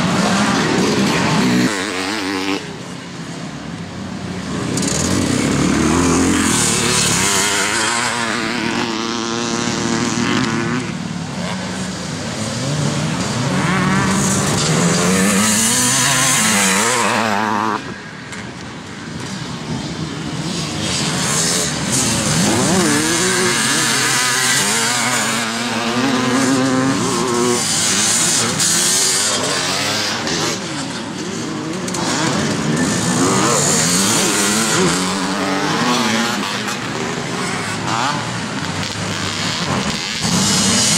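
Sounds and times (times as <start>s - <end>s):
motocross motorcycles revving: 0.0s - 40.9s.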